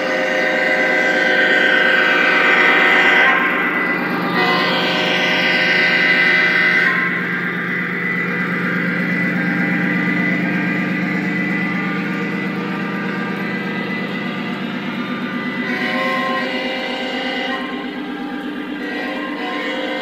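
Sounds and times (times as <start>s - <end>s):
locomotive engine sound drone: 0.0s - 20.0s
model train cars rumbling on track: 0.0s - 20.0s.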